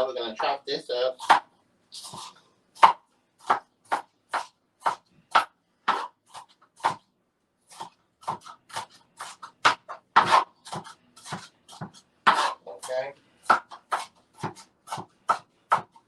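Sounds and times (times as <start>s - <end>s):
knife chopping on cutting board: 1.2s - 7.1s, 7.7s - 16.0s.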